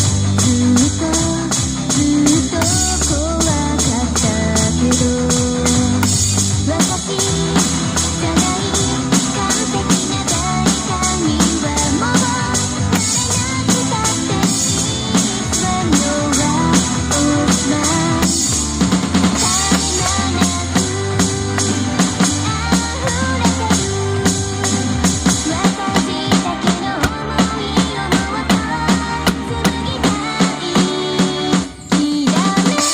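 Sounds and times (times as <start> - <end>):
drum kit playing: 0.0 - 32.9
recorded pop song: 0.0 - 32.9.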